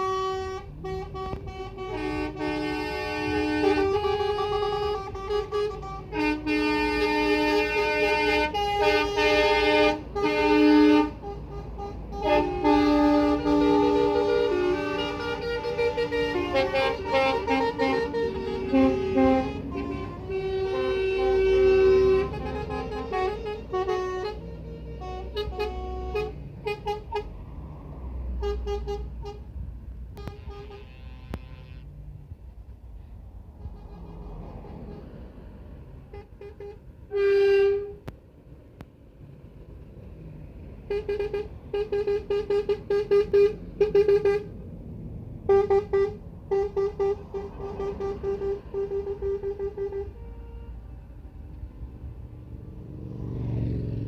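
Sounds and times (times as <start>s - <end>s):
truck horns blasting: 0.0s - 32.5s, 33.4s - 38.3s, 40.5s - 54.0s
lorry engines rumbling: 0.0s - 54.0s.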